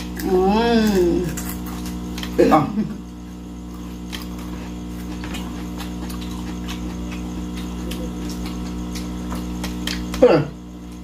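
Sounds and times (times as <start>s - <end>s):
electrical hum: 0.0s - 11.0s
people chewing: 0.0s - 11.0s.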